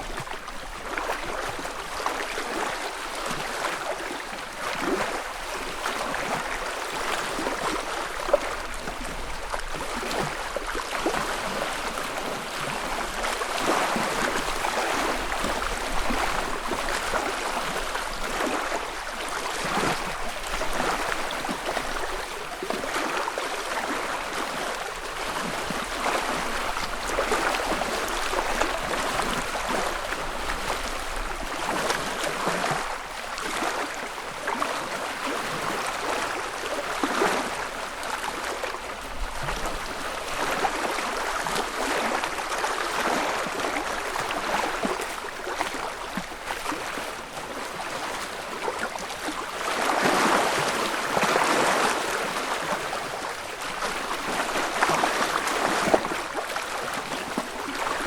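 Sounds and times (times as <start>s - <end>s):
wavelets lapping against shore: 0.0s - 58.0s.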